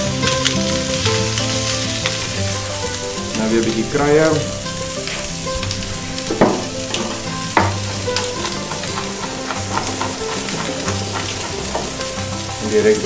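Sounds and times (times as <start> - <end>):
soft background music: 0.0 - 13.0
steady hiss: 0.0 - 13.0.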